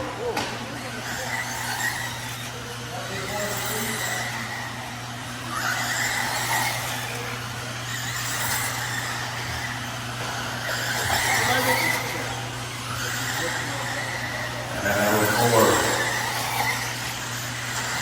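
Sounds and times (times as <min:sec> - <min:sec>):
rc car motor whine: 0:00.0 - 0:18.0.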